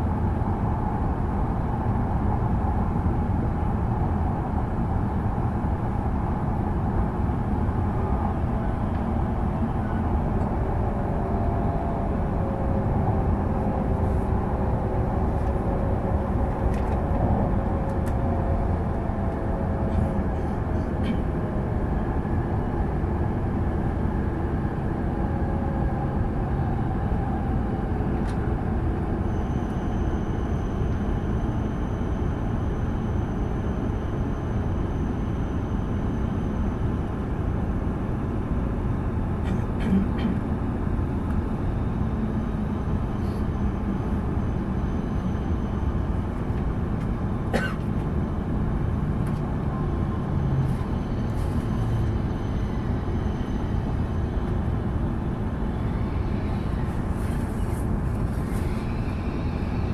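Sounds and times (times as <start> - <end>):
train rumbling and rushing: 0.0 - 59.9.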